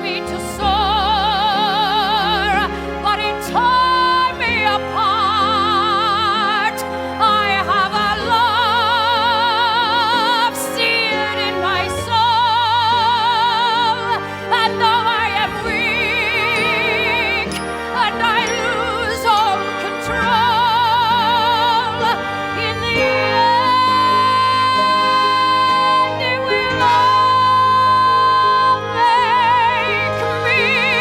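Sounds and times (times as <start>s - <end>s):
orchestral accompaniment: 0.0s - 31.0s
show-tune singing with vibrato: 0.0s - 31.0s.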